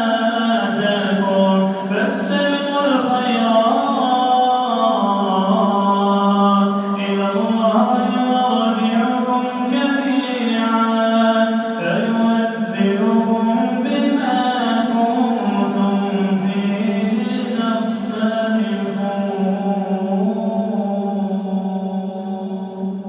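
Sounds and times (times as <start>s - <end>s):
man chanting a recitation: 0.0s - 23.0s.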